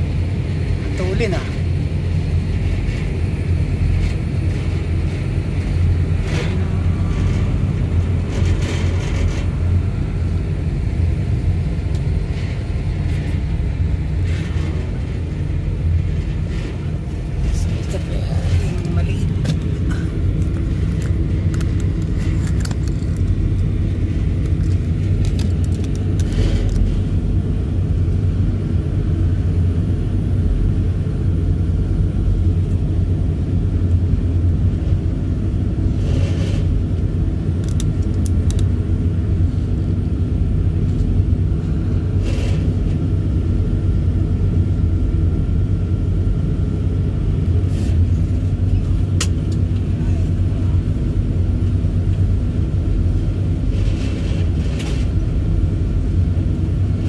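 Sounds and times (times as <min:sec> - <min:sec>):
truck engine rumble: 0:00.0 - 0:57.0.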